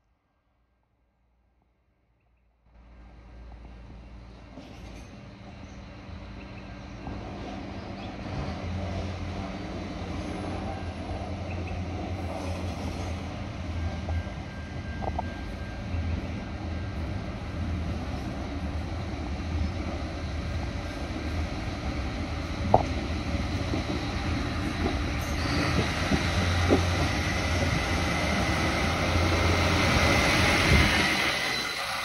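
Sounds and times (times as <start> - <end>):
diesel railcar engines humming: 2.8 - 32.0.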